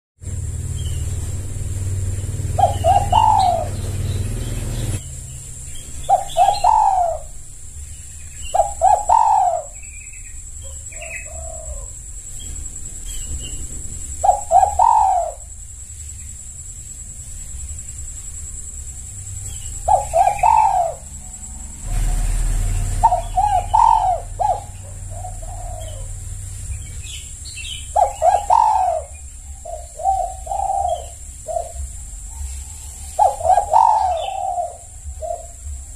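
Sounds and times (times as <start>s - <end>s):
dove cooing: 0.3s - 5.0s, 5.6s - 7.8s, 8.4s - 12.6s, 13.2s - 15.6s, 19.3s - 35.9s.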